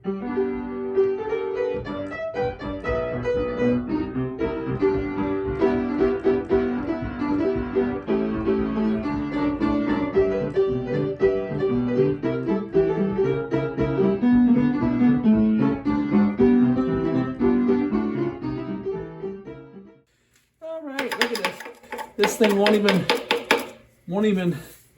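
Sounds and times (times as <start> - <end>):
piano intro music: 0.0 - 20.0.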